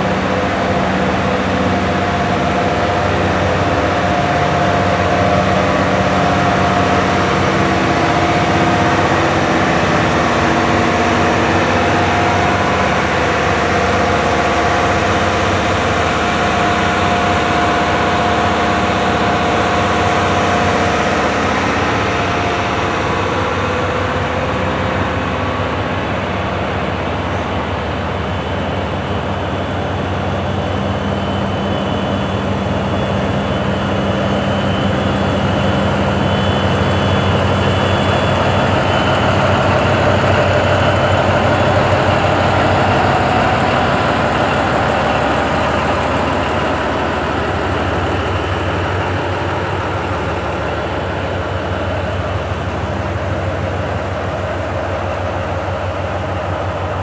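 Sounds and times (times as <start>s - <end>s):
locomotive engine idling: 0.0s - 57.0s.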